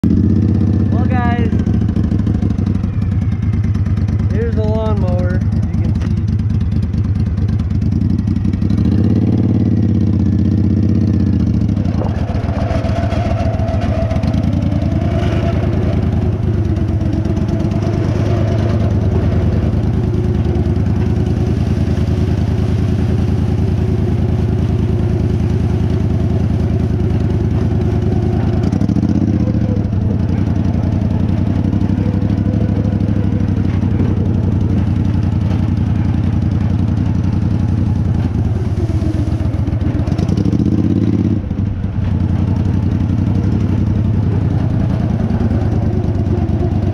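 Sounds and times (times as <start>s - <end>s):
riding lawnmower engine running: 0.0s - 46.9s.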